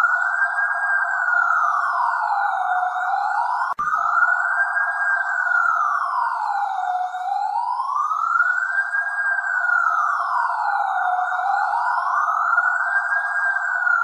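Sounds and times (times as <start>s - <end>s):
police siren slow wail: 0.0s - 14.0s.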